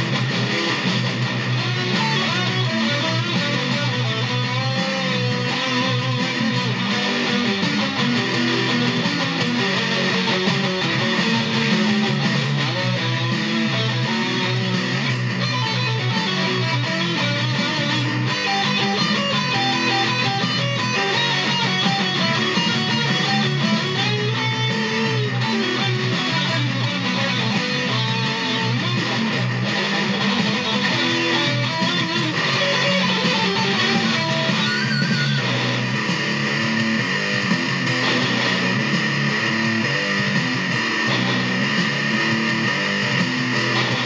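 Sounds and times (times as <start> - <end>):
electric guitars playing: 0.0 - 44.0.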